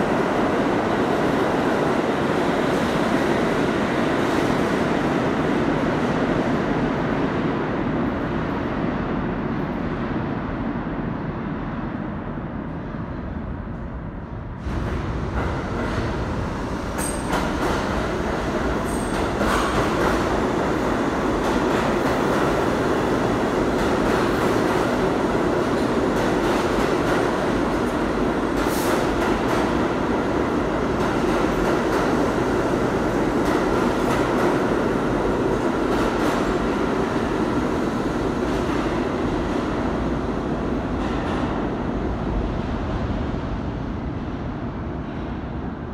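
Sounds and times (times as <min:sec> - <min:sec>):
subway train rumbling past: 0:00.0 - 0:45.9.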